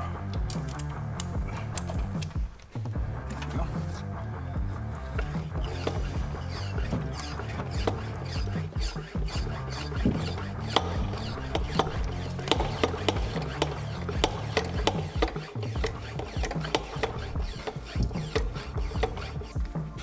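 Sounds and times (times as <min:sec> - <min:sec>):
brake bleeder pump clicking: 0:00.2 - 0:03.6, 0:05.0 - 0:20.0.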